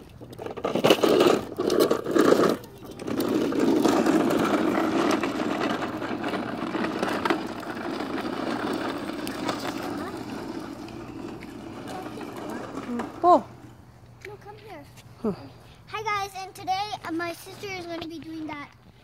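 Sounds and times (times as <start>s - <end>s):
plastic wheels rolling on concrete: 0.0s - 19.0s.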